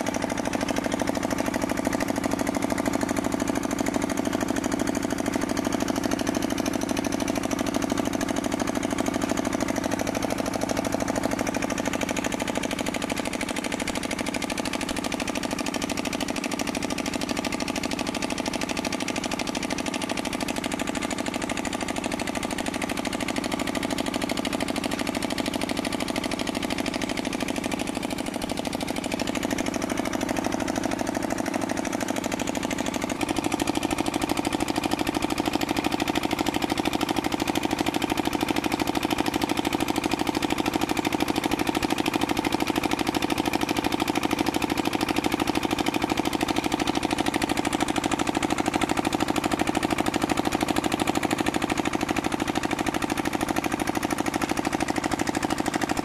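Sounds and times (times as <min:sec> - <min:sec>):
small diesel pump engine: 0:00.0 - 0:56.0.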